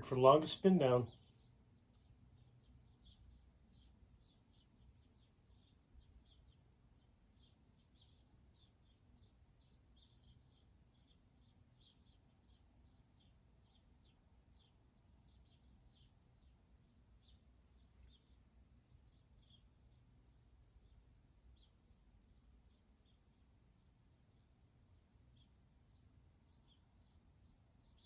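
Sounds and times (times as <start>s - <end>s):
faint bird chirping: 0.0s - 28.0s.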